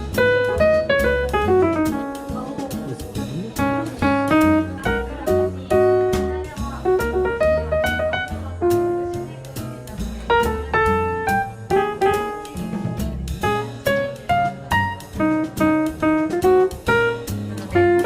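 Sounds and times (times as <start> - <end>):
jazz music: 0.0 - 18.0.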